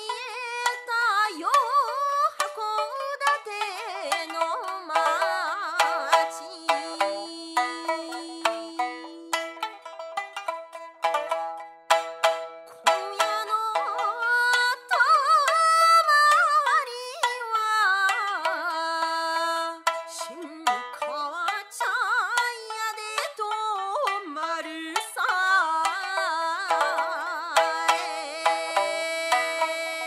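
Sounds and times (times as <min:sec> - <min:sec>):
woman singing folk song: 0:00.0 - 0:09.8, 0:12.7 - 0:30.0
plucked shamisen notes: 0:00.0 - 0:30.0.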